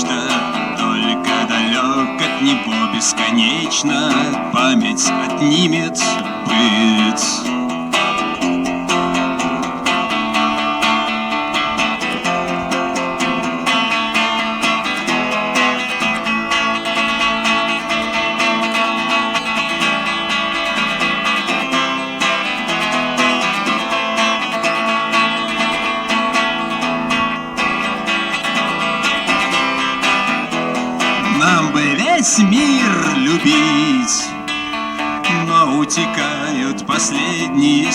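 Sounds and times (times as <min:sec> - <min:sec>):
acoustic guitar strumming: 0:00.0 - 0:37.9.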